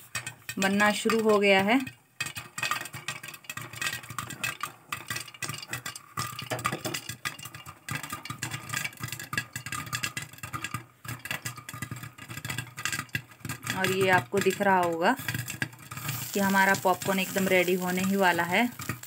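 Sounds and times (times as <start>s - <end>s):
popcorn kernels popping: 0.0s - 19.0s.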